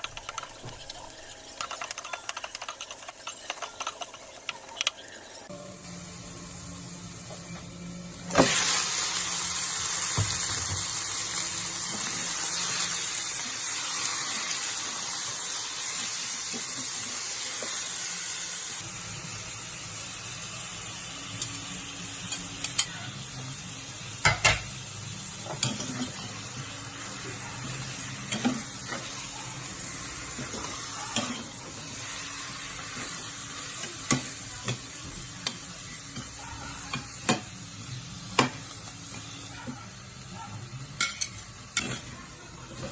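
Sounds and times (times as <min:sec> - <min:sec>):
food sizzling in hot oil: 0:00.0 - 0:05.5, 0:08.2 - 0:40.3.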